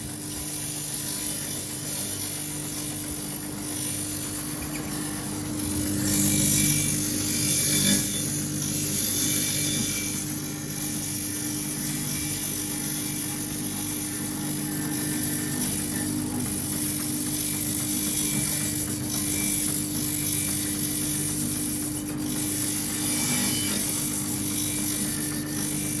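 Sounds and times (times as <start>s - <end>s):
sharpening machine humming and hissing: 0.0s - 26.0s.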